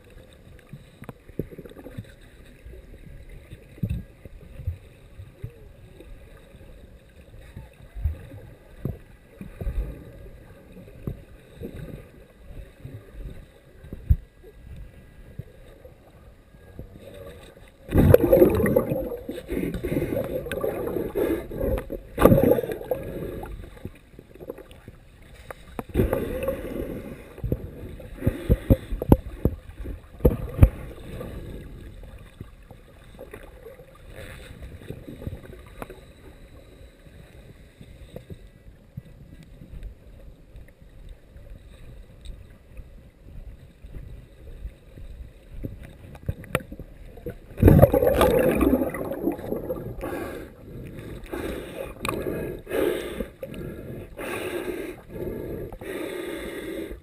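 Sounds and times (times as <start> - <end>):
churning water underwater: 0.0 - 57.0.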